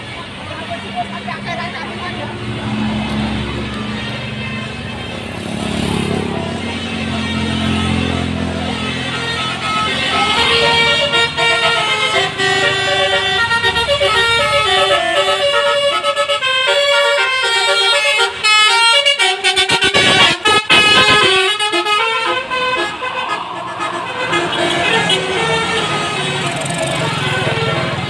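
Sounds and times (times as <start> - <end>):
bus horn playing a tune: 3.1 - 28.0.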